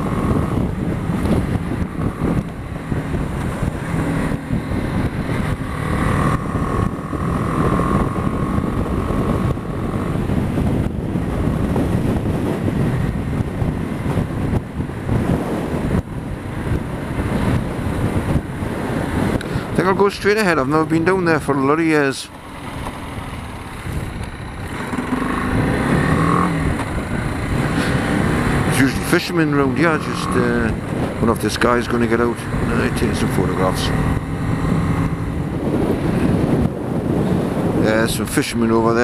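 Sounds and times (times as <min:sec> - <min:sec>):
motorcycle engine running: 0:00.0 - 0:39.0
wind rush on microphone: 0:00.0 - 0:39.0.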